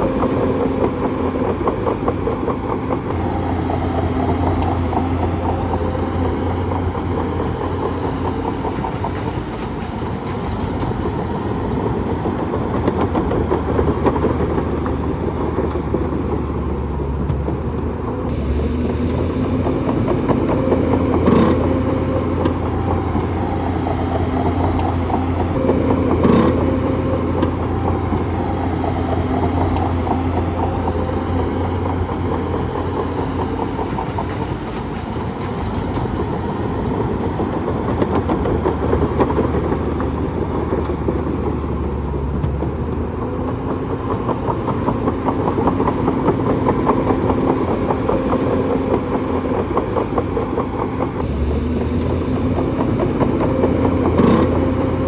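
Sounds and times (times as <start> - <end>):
bulldozer diesel engine clattering: 0.0 - 55.0.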